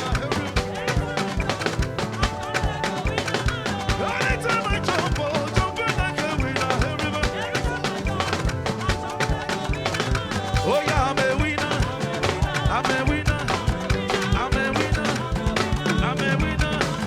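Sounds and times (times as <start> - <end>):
fast drum beat: 0.0 - 17.0
upbeat band playing: 0.0 - 17.0.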